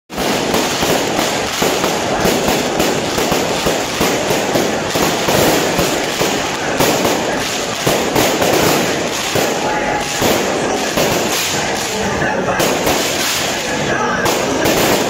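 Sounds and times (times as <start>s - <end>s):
fireworks crackling: 0.1s - 15.0s.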